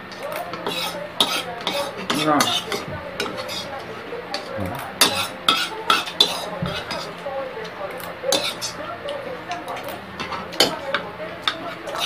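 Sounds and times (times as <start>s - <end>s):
spoons clinking on ceramic bowls: 0.1s - 12.0s.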